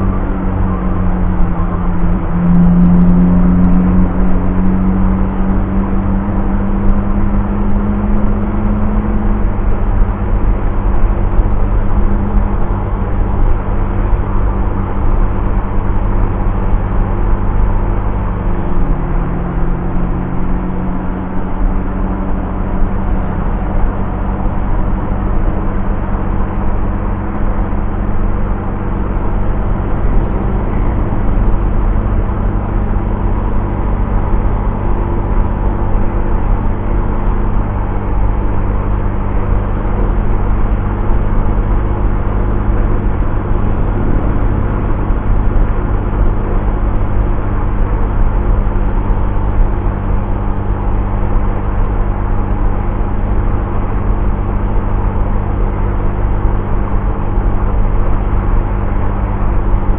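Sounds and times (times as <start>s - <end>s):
scooter engine cruising: 0.0s - 59.9s
wind and road rush: 0.0s - 59.9s.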